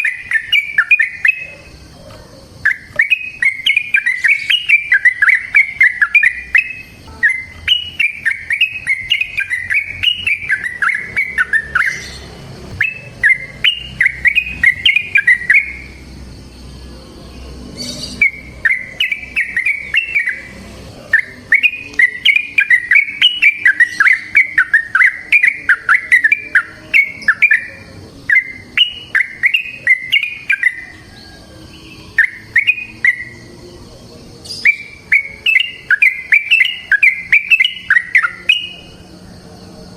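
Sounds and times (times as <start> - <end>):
bird singing bubbling chirps: 0.0 - 39.0.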